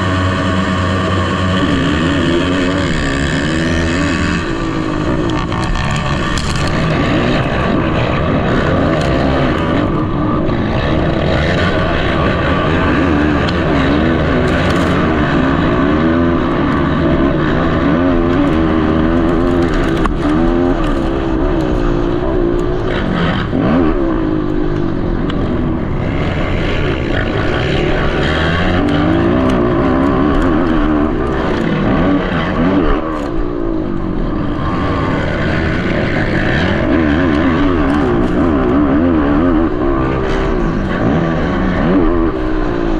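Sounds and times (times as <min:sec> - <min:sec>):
quad engines revving: 0:00.0 - 0:42.9.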